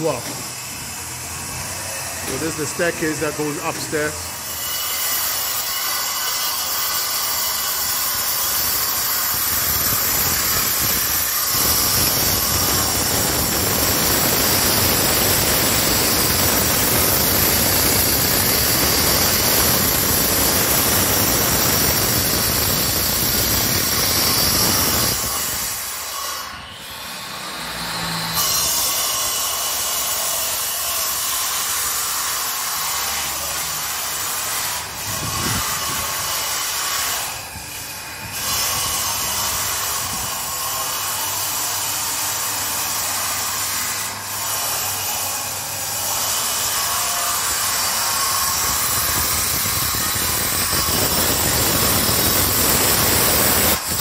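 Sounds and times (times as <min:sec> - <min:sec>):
angle grinder cutting concrete: 0:00.0 - 0:54.0.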